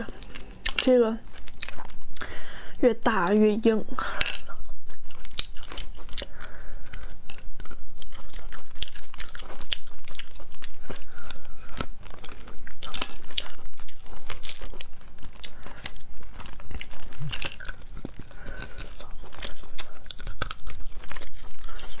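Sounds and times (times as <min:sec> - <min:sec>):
crunching and chewing shellfish: 0:00.0 - 0:22.0.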